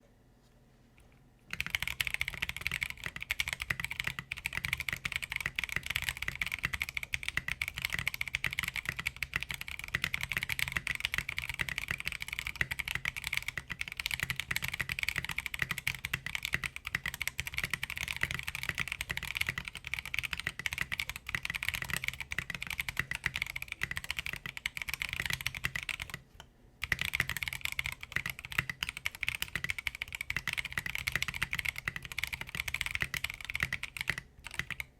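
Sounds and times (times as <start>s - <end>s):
fast typing on mechanical keyboard: 1.5s - 26.2s, 26.8s - 34.9s.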